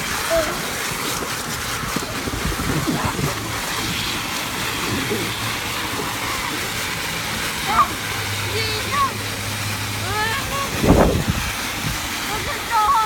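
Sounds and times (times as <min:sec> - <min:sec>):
sprinkler spraying water: 0:00.0 - 0:13.0.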